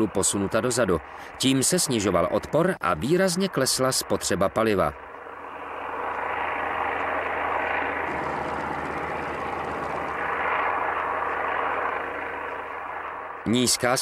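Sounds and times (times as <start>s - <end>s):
propeller plane flying overhead: 0.0s - 14.0s.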